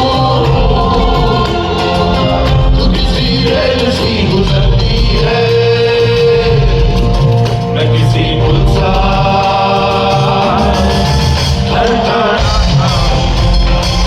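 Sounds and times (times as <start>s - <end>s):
rock band with singing: 0.0s - 14.0s.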